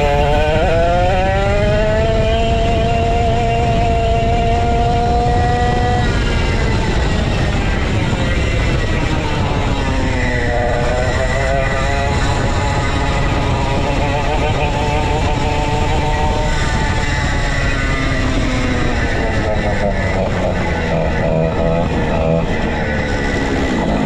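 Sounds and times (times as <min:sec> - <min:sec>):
go-kart engine running: 0:00.0 - 0:24.0
low rumble of wind and track: 0:00.0 - 0:24.0.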